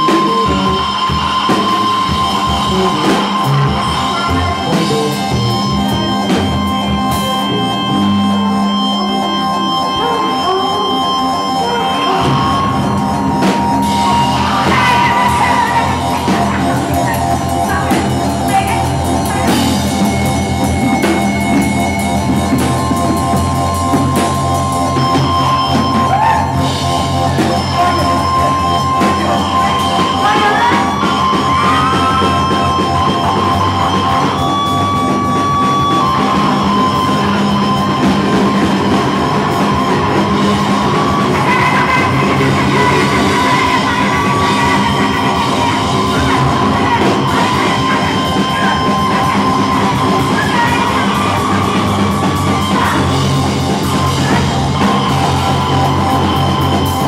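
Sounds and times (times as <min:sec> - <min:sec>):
distorted noise music: 0:00.0 - 0:57.0.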